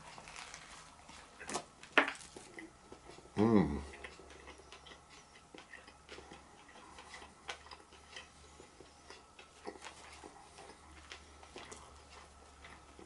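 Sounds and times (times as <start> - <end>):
faint chewing: 0.0 - 13.0
low steady hum: 0.0 - 13.0.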